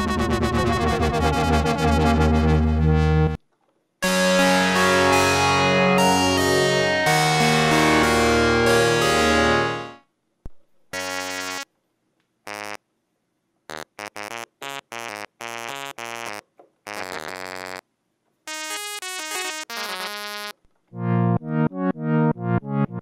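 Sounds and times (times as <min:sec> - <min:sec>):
analog synthesizer notes and chords: 0:00.0 - 0:03.4, 0:04.0 - 0:10.0, 0:11.0 - 0:11.6, 0:13.7 - 0:17.8, 0:18.5 - 0:23.0.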